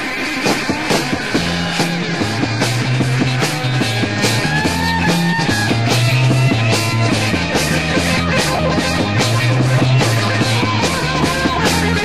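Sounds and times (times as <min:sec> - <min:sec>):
bass line: 0:00.0 - 0:12.0
drum hits: 0:00.0 - 0:12.0
electric guitar bending: 0:00.0 - 0:12.0.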